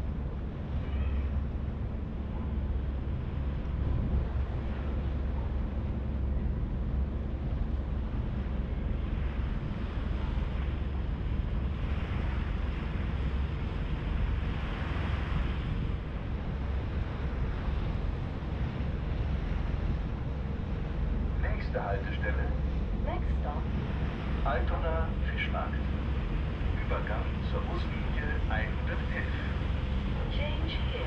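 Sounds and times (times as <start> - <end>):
ferry engine low rumble: 0.0 - 31.0
rushing wind: 0.0 - 31.0
water noise: 0.0 - 31.0.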